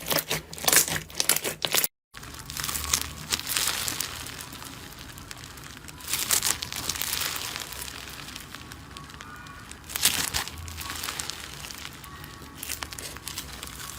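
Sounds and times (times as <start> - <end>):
slime squeezed and crackling: 0.0 - 13.9.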